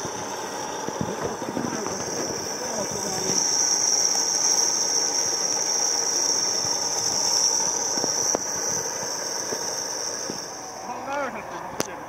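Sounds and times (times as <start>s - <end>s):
winch whining under load: 0.0s - 12.0s.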